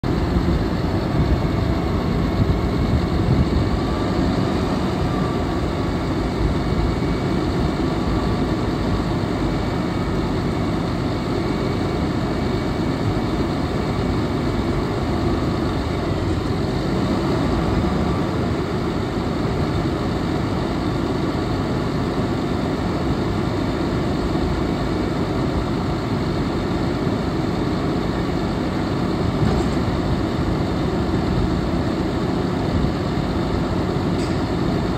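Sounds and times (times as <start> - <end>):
truck engine running: 0.0 - 34.9.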